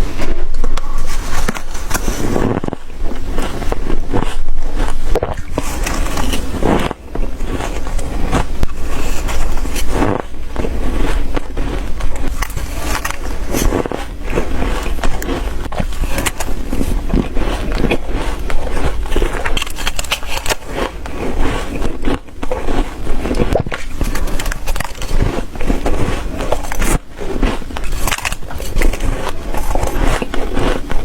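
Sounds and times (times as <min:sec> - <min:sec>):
ice crunching while chewed: 0:00.0 - 0:31.0.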